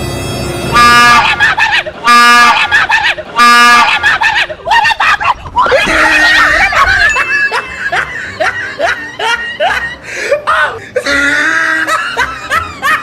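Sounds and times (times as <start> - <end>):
people screaming and shouting: 0.8 - 13.0.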